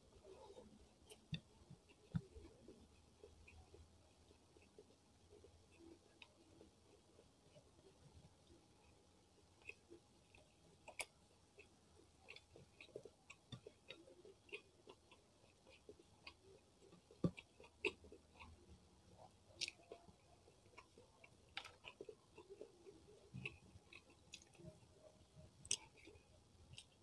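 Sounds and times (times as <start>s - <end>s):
soft chewing and mouth clicks: 0.0s - 27.0s.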